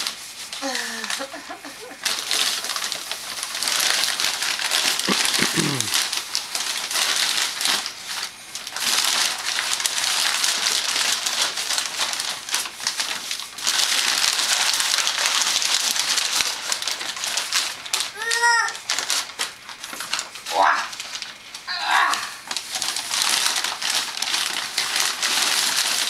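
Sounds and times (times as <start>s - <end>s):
packing paper crinkling: 0.0s - 26.0s.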